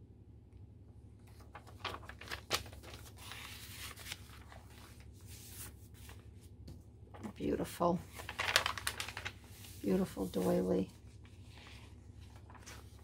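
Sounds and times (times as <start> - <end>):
faint low steady hum: 0.0 - 13.0
paper rustling and crinkling: 1.2 - 13.0.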